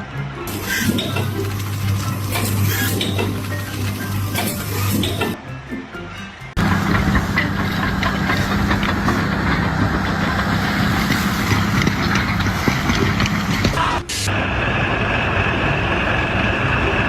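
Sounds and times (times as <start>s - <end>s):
machine engine running with rattle: 0.5s - 5.4s, 6.6s - 17.0s.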